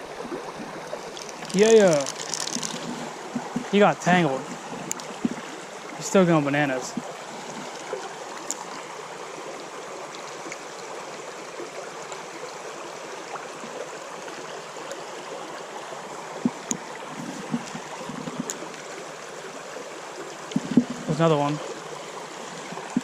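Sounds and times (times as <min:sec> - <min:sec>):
stream running over stones: 0:00.0 - 0:23.0.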